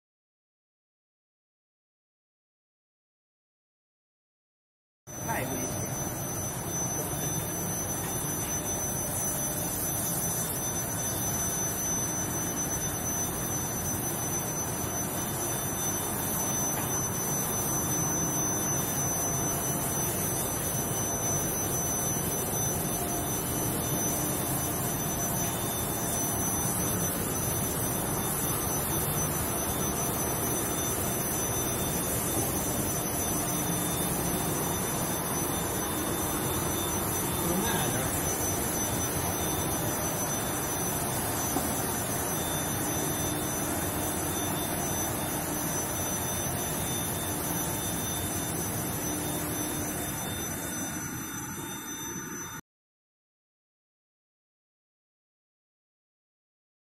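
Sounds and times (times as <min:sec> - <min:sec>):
high-pitched whine: 0:05.1 - 0:52.6
steady machine noise: 0:05.1 - 0:52.6.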